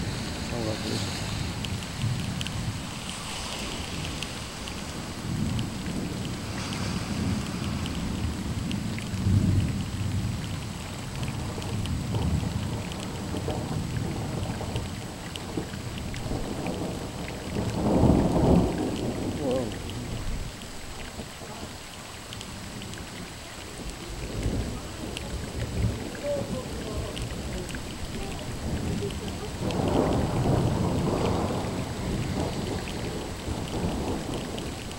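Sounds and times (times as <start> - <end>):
thunder rumbling: 0.0 - 21.7, 22.7 - 34.9
raindrops ticking: 0.0 - 34.9
steady rain: 0.0 - 34.9.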